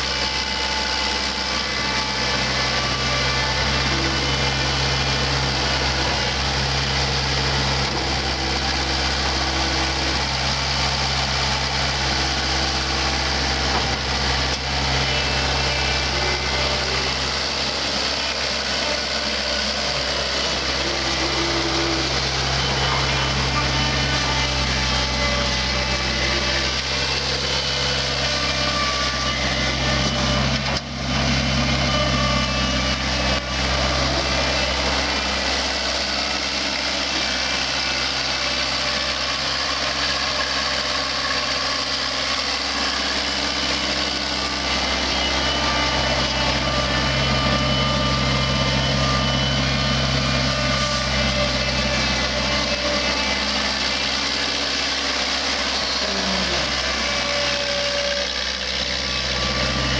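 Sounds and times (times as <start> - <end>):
skid steer engine running: 0.0 - 59.9.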